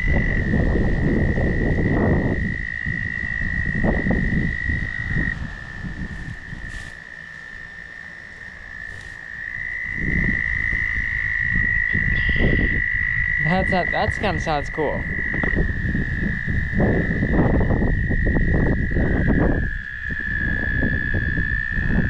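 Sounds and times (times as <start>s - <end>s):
frogs trilling: 0.0s - 22.0s
low rumbling noise: 0.0s - 22.0s.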